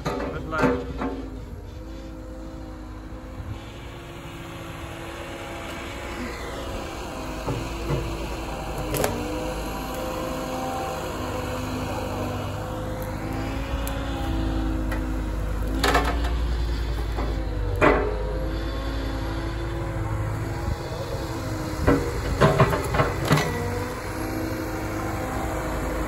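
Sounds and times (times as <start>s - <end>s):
diesel excavator engine running: 0.0s - 26.0s.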